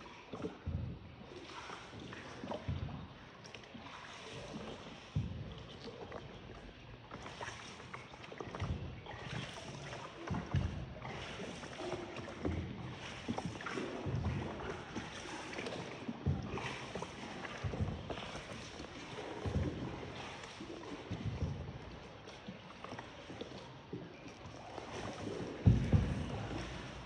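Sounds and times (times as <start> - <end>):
boat knocks and splashes: 0.0 - 27.0
water noise: 0.0 - 27.0.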